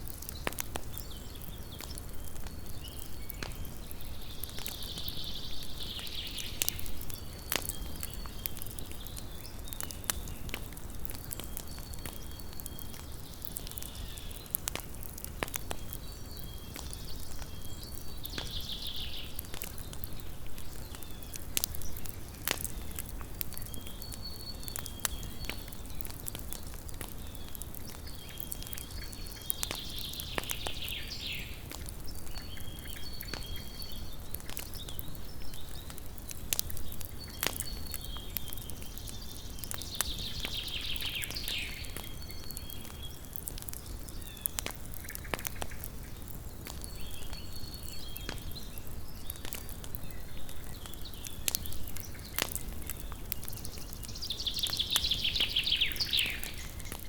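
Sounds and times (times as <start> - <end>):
campfire crackling and popping: 0.0 - 57.0
low steady fire hiss: 0.0 - 57.0.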